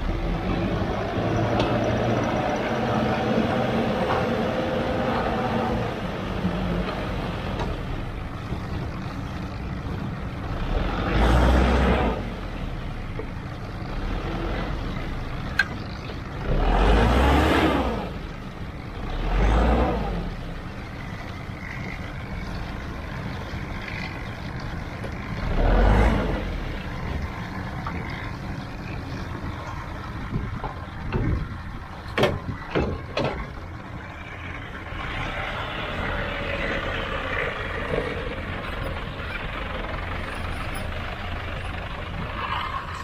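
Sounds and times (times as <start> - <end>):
diesel earthmoving machinery engine: 0.0 - 43.0.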